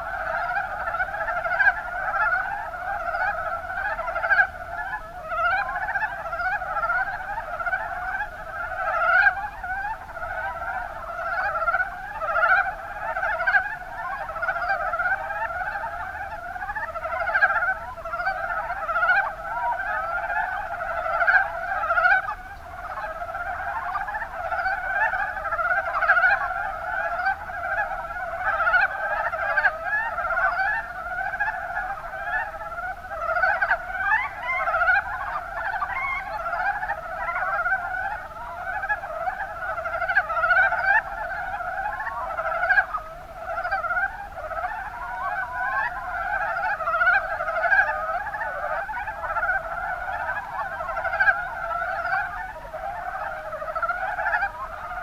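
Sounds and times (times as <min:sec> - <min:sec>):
frogs calling: 0:00.0 - 0:55.0.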